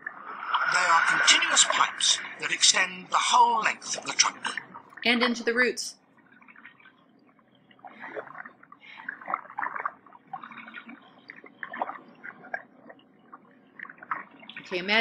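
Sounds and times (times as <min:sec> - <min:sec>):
water gurgling and bubbling: 0:00.0 - 0:06.9, 0:07.7 - 0:15.0.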